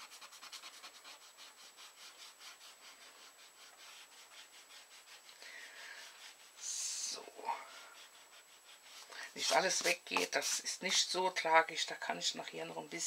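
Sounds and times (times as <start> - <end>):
eraser scrubbing on card: 0.0 - 11.0.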